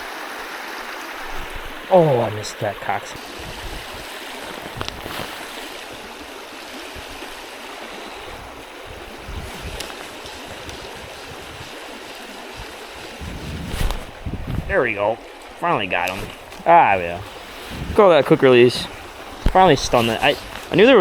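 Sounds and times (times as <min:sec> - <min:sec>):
creek rushing: 0:00.0 - 0:21.0.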